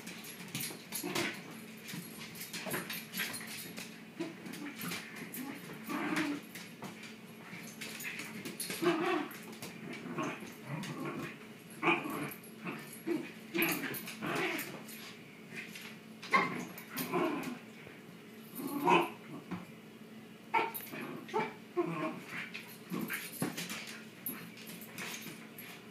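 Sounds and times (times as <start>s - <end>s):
dogs vocalizing while play-fighting: 0.2s - 17.8s, 20.5s - 25.9s.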